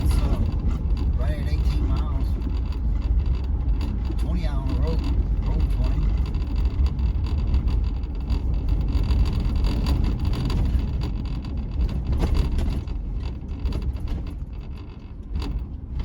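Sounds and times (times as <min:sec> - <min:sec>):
road and engine rumble in vehicle: 0:00.0 - 0:16.0.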